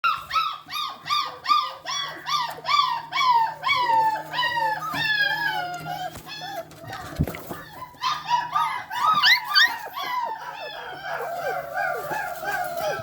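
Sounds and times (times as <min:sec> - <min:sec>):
puppy whining: 0:00.0 - 0:13.0.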